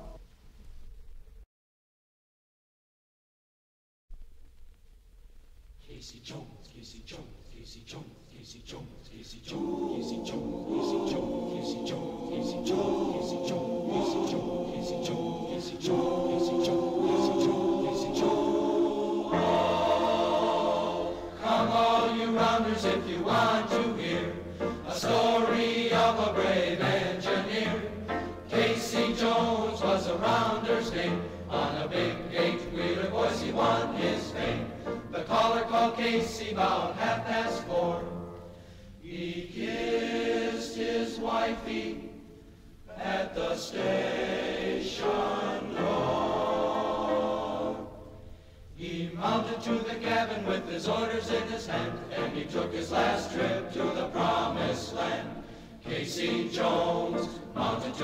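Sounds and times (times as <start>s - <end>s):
choir singing held chords: 5.8s - 58.0s.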